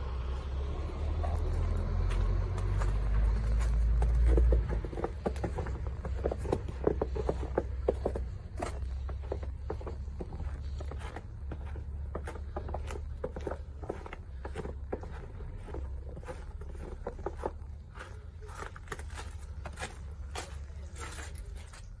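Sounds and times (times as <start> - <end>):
footsteps on slushy snow: 0.0 - 22.0.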